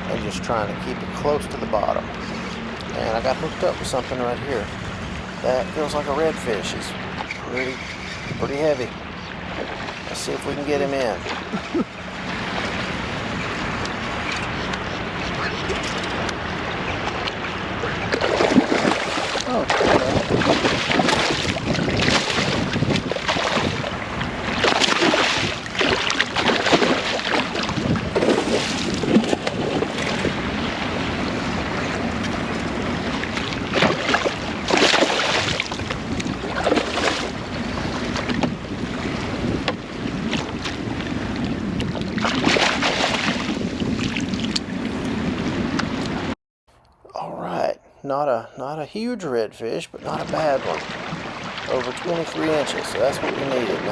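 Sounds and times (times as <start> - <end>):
water splashing around kayak: 0.0 - 46.4, 50.1 - 53.9
wind buffeting microphone: 0.0 - 46.4.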